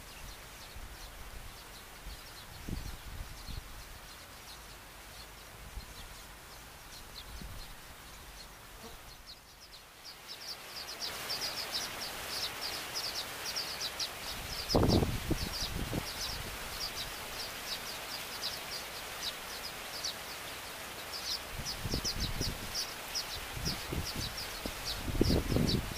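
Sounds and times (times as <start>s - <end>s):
birds chirping: 0.0s - 25.9s
steady hiss: 0.0s - 25.9s.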